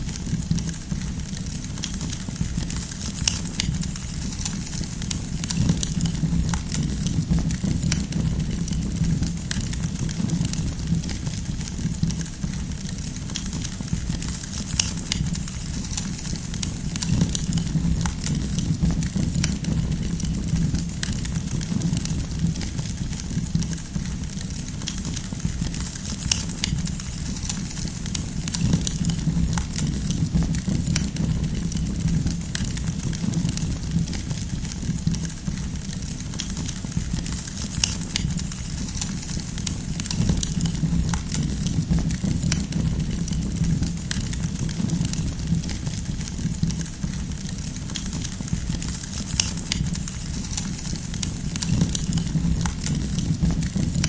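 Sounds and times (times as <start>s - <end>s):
firewood crackling and popping: 0.0s - 54.0s
low rumble of flames: 0.0s - 54.0s.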